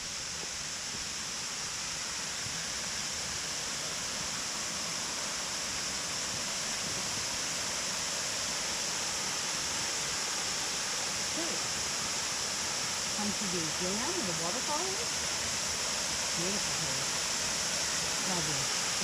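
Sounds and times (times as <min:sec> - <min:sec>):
water falling over dam: 0:00.0 - 0:19.0.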